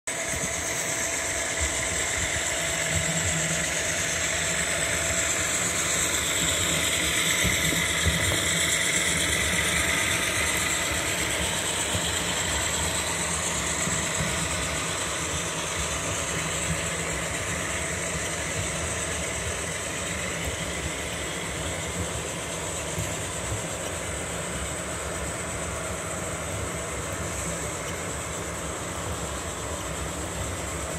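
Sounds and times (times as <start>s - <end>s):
model train running: 0.1s - 30.9s.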